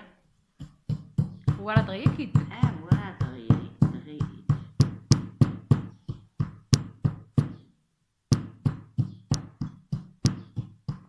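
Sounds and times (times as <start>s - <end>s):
pestle pounding in metal mortar: 0.6s - 7.7s, 8.3s - 11.0s.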